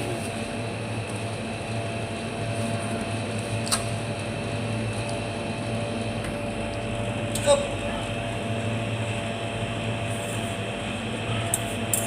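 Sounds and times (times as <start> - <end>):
refrigerator compressor humming: 0.0 - 12.0.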